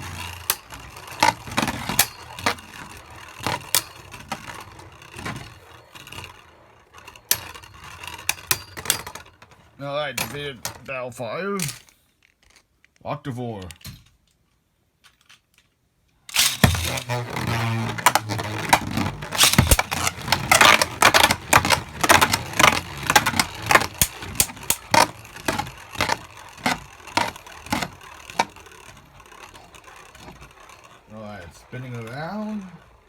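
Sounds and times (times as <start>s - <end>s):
spinning tops clattering: 0.0s - 10.8s, 16.3s - 33.0s.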